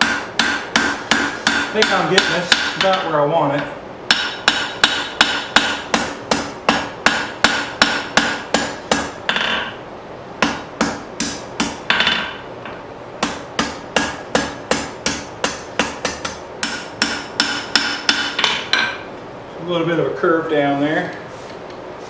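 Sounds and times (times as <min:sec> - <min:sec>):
hammer striking steel on anvil: 0:00.0 - 0:09.8, 0:10.4 - 0:19.1.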